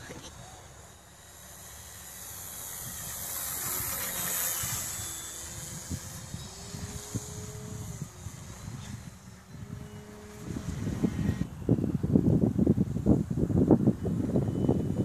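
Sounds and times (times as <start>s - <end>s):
model airplane flying past: 0.0s - 15.0s.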